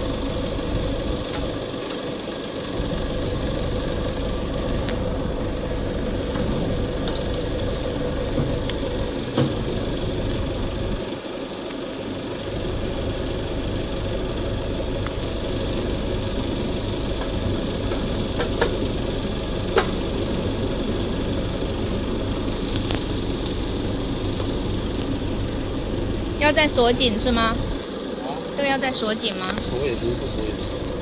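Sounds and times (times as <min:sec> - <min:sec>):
low mechanical drone: 0:00.0 - 0:31.0.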